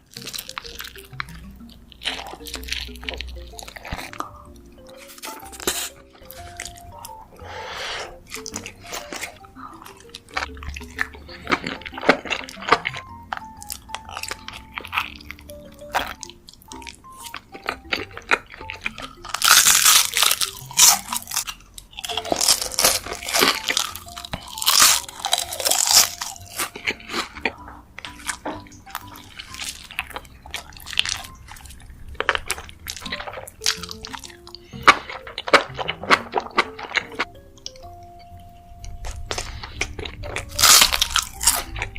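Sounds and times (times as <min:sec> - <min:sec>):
crunchy bites and chewing: 0:00.0 - 0:37.8, 0:39.0 - 0:41.9
soft background music: 0:00.0 - 0:41.9.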